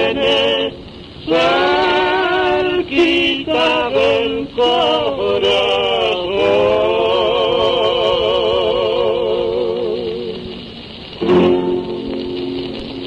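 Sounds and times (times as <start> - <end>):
two men singing in harmony: 0.0 - 10.6
record hiss: 0.0 - 13.0.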